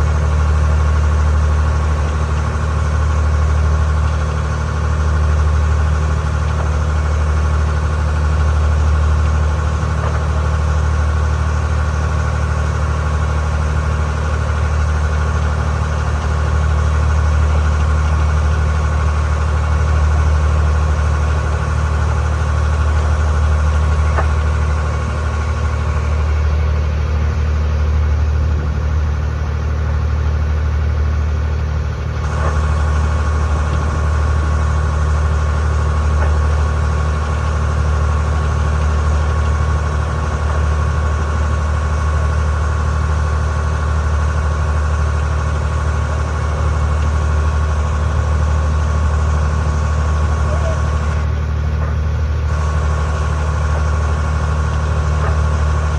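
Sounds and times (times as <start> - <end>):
ferry engine droning: 0.0 - 55.9.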